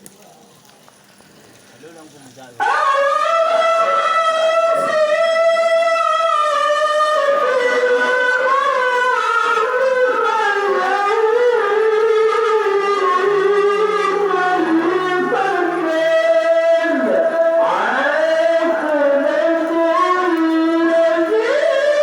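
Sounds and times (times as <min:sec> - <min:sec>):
person reciting in melismatic chant: 0:01.8 - 0:22.0.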